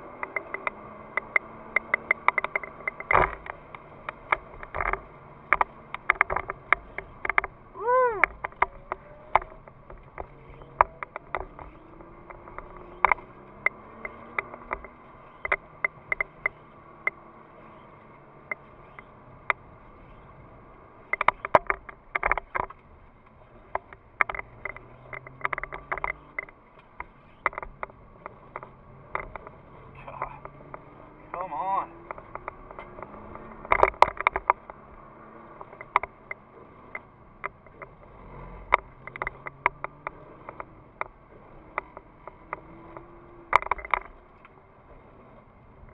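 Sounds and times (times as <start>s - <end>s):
faint car engine: 0.0s - 45.9s
sharp clicks and knocks: 0.0s - 45.9s.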